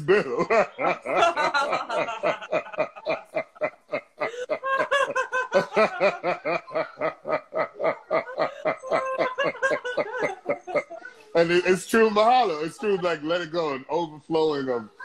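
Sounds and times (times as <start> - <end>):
man and woman laughing: 0.0 - 13.4.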